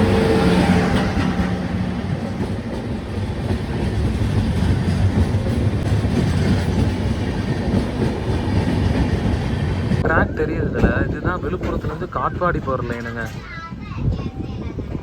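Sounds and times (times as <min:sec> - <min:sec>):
train wheels clattering over rails: 0:00.0 - 0:13.9.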